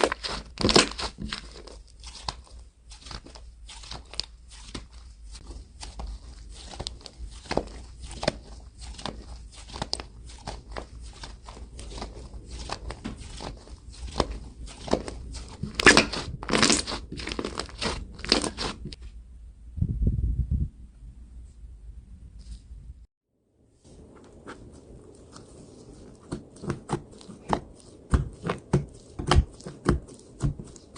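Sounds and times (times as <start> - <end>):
slime crackling and popping: 0.0 - 19.0, 24.3 - 30.9.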